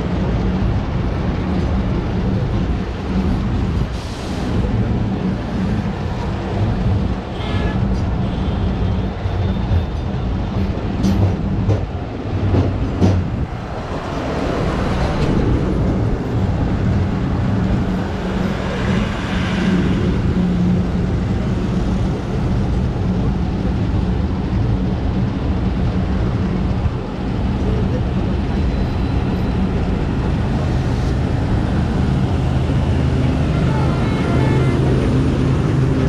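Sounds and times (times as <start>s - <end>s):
train wheels rumbling: 0.0s - 36.0s.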